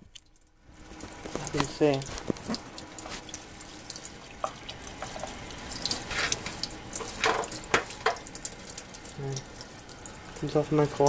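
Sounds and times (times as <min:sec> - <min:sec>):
tap water running into sink: 0:00.8 - 0:11.0.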